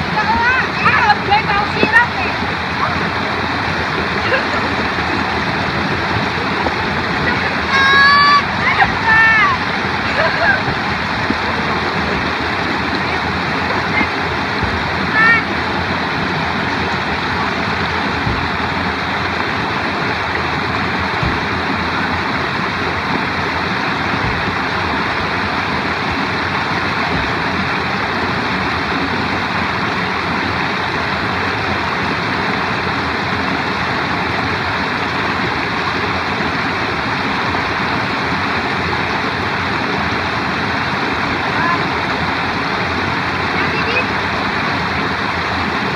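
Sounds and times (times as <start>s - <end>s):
stream running over stones: 0.0s - 45.9s.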